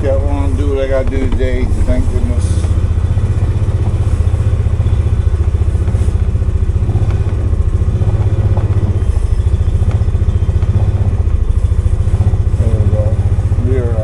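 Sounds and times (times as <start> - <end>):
engine chugging: 0.0 - 14.0.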